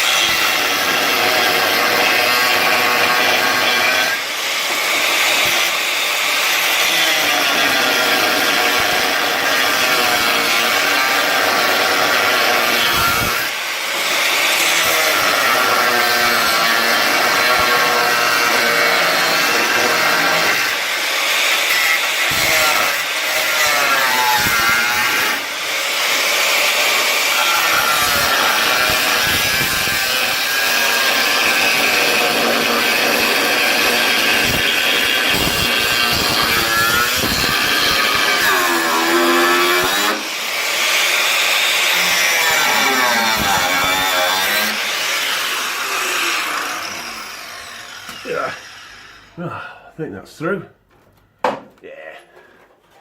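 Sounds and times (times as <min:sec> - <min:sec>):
angle grinder cutting steel: 0:00.0 - 0:49.4.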